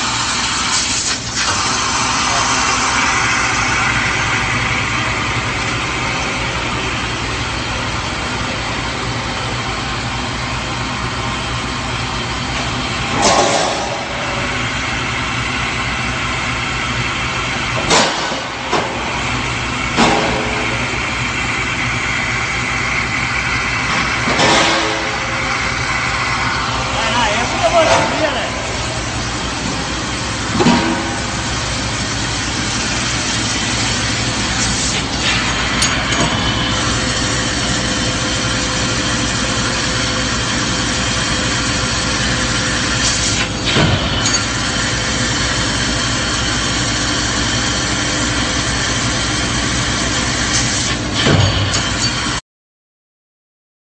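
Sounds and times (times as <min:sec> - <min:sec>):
industrial machinery humming: 0:00.0 - 0:52.4.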